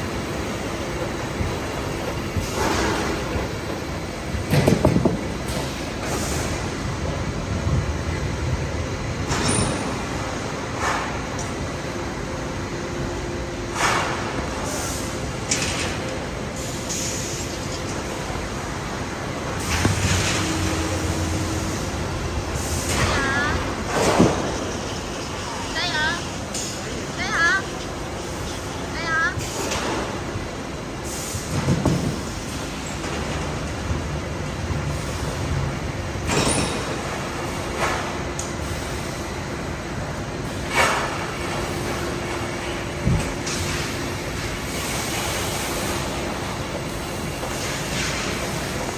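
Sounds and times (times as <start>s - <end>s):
industrial machinery din: 0.0s - 48.9s.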